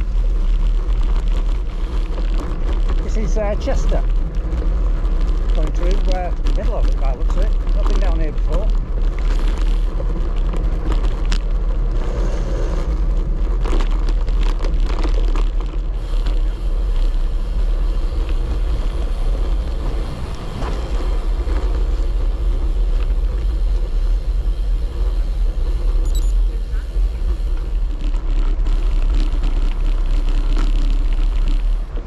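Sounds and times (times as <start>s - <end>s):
bicycle tyre rumble: 0.0s - 32.0s
wind buffeting microphone: 0.0s - 32.0s.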